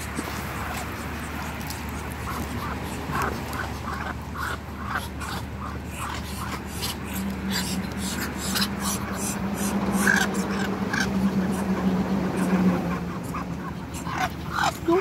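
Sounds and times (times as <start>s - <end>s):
ducks giving soft calls: 0.0s - 15.0s.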